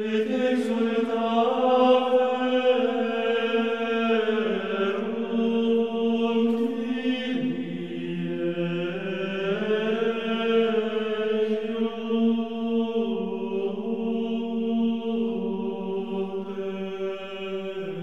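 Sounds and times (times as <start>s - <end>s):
slow chant of long notes: 0.0s - 18.0s.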